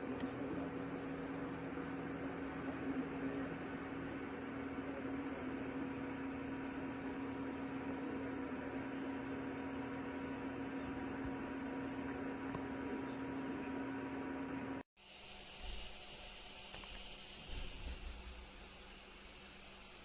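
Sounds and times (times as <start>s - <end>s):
fan noise: 0.0s - 20.0s
printer electric hum: 0.0s - 20.0s.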